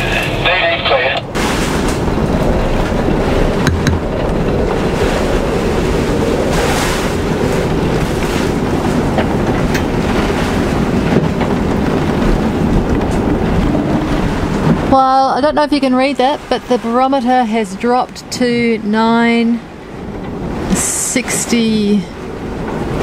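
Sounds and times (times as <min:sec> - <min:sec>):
strong wind rushing: 0:00.0 - 0:23.0.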